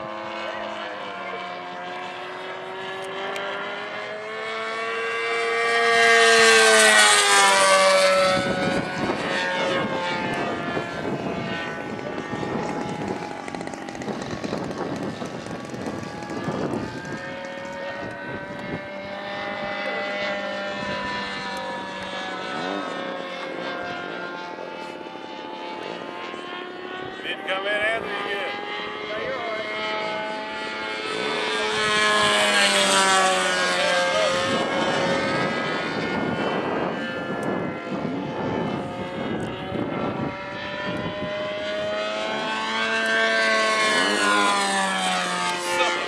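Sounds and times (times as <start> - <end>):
model airplane engines droning: 0.0 - 46.0.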